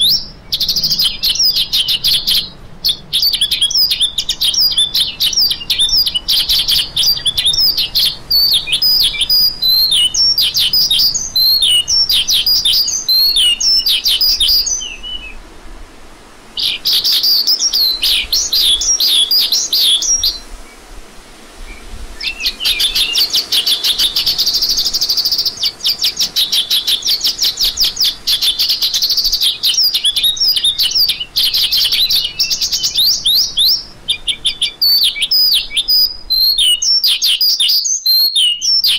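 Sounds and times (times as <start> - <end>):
lark singing: 0.0 - 15.4, 16.6 - 20.5, 21.7 - 38.9.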